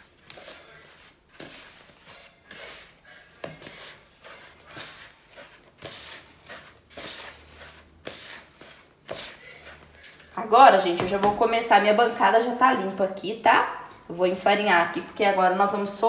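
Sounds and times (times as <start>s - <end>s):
hands mixing sticky dough: 0.0s - 16.0s.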